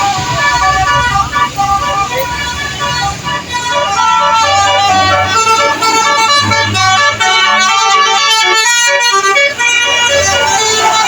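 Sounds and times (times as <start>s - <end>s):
truck musical air horn tune: 0.0s - 11.0s.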